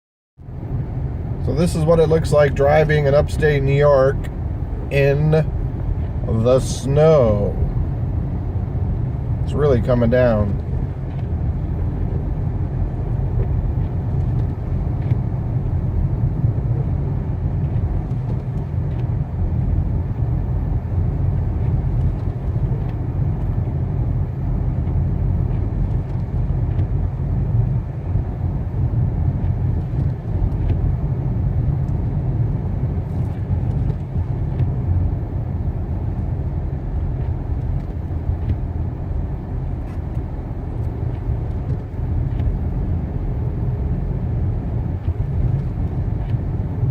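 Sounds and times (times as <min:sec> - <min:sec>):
car engine and tyre rumble: 0:00.4 - 0:46.9.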